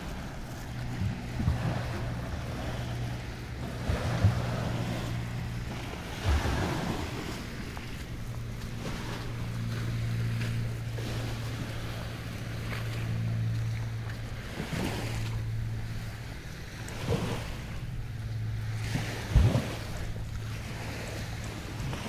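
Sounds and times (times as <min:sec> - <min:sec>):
motorboat engine humming: 0:00.0 - 0:22.0.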